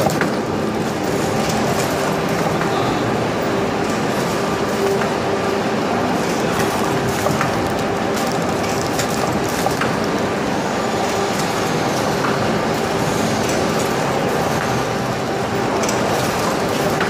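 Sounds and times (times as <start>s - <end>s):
packaging machinery running: 0.0s - 17.0s.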